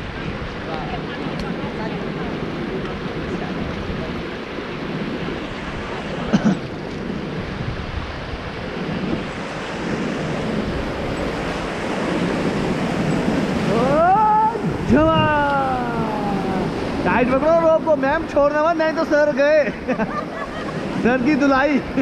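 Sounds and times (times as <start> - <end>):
whitewater rushing: 0.0 - 22.0
wind buffeting microphone: 0.0 - 22.0.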